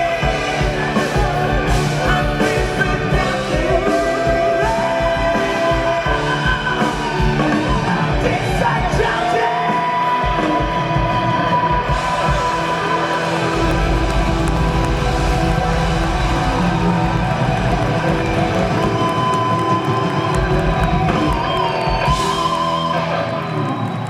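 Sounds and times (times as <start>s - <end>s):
steady drum beat: 0.0s - 23.0s
band playing: 0.0s - 24.0s.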